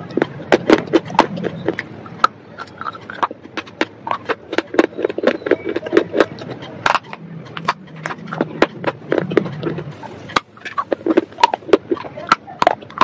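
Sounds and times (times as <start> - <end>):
chewing dry clay crunching: 0.0 - 13.0.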